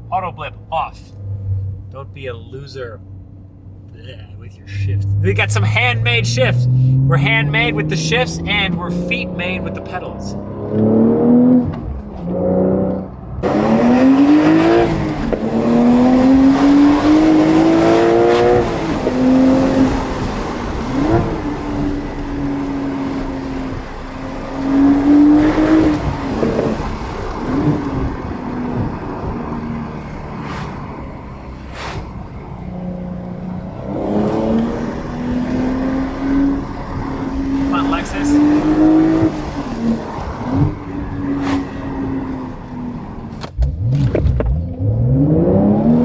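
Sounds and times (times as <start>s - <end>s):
engine throttle blips: 0.0s - 46.0s
sports car engine accelerating: 0.0s - 46.0s.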